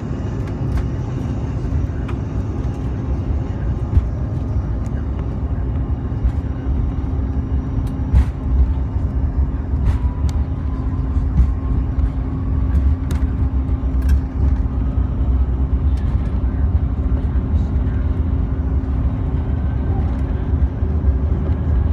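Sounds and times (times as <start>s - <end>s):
heavy low rumble: 0.0s - 21.9s
jet engines humming: 0.0s - 21.9s.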